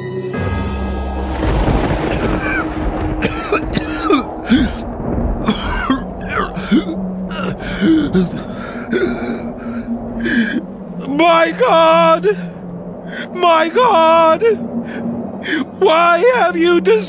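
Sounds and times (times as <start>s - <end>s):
sombre orchestral music: 0.0s - 17.0s
deep rumble: 0.4s - 16.2s
people sobbing: 1.6s - 17.0s.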